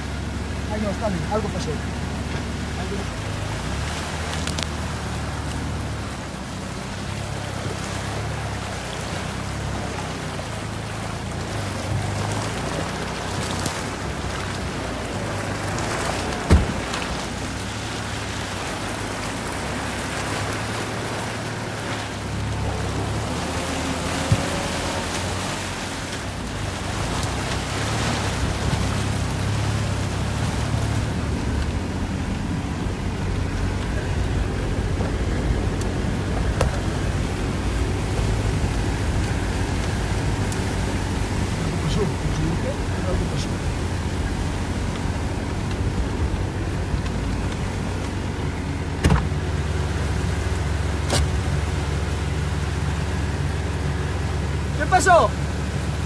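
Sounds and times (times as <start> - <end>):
off-road vehicle engine running: 0.0 - 56.0
water rushing and splashing: 0.0 - 56.0.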